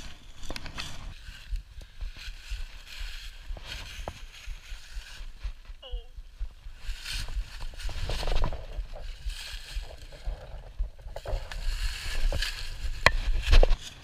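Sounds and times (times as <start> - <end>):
steady low rumble: 0.0 - 13.6
footsteps crunching dry leaves: 0.0 - 14.0.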